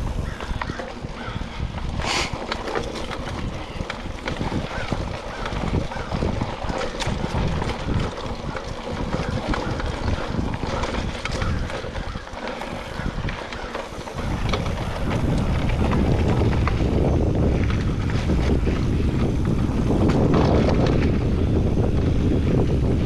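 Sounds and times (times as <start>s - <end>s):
bike rattling and clicking: 0.0s - 23.0s
bike tyres on dirt: 0.0s - 23.0s
wind buffeting microphone: 0.0s - 23.0s.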